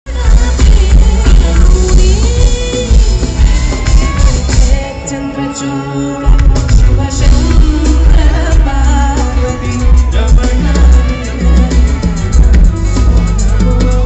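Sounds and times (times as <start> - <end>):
amplified band with heavy bass: 0.0 - 14.0
woman singing: 0.1 - 14.0.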